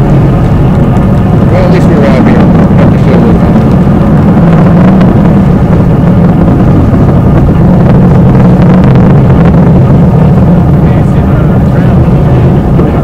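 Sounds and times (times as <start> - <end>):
distant rocket engine rumble: 0.0 - 13.0.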